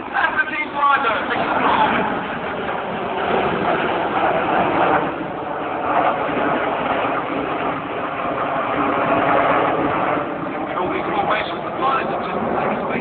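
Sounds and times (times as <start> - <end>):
jet aircraft rushing: 0.0 - 13.0.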